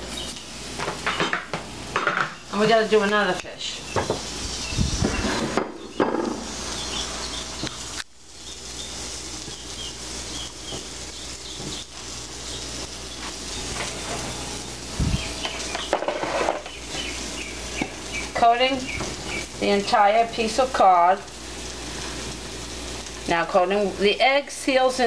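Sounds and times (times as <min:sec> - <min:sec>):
fish fillets sizzling: 0:00.0 - 0:25.0.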